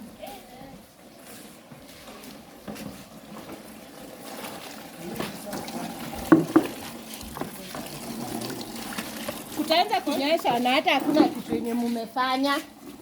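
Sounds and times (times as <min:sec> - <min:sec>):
water pouring and splashing: 0:00.8 - 0:13.0.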